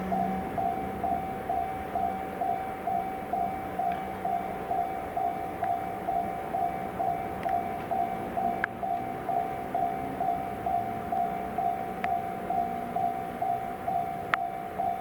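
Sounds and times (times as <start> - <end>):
level crossing alarm bell: 0.0 - 15.0.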